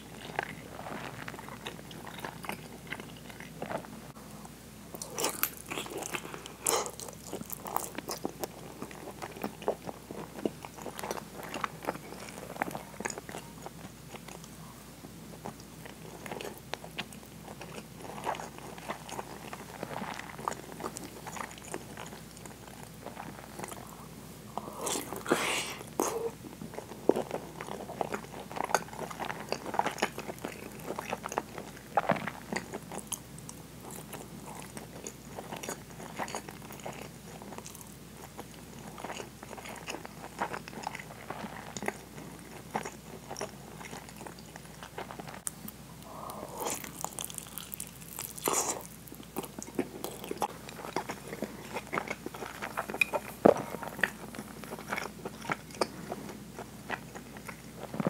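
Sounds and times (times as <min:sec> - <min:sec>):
chewing and mouth sounds: 0:00.0 - 0:03.9, 0:04.9 - 0:14.6, 0:15.3 - 0:58.0.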